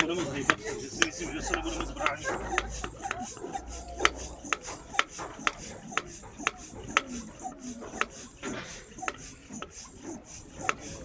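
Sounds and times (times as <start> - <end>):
vacuum pump clicks: 0.0 - 9.8, 10.5 - 11.0
rasping rub of pump: 0.0 - 11.0.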